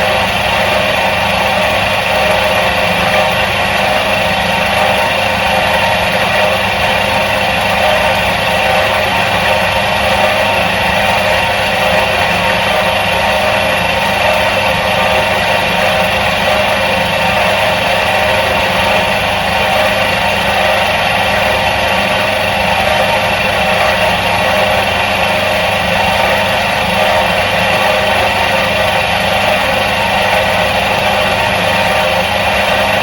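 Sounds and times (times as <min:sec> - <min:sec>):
washing machine motor humming: 0:00.0 - 0:33.0.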